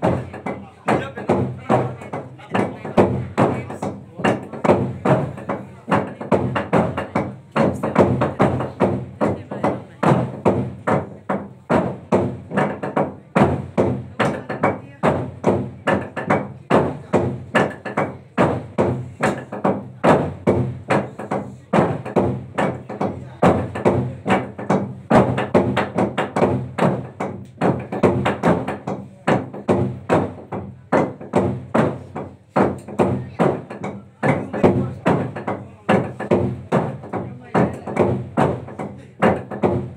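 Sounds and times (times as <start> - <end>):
log drum heavy wooden knocks: 0.0 - 39.9.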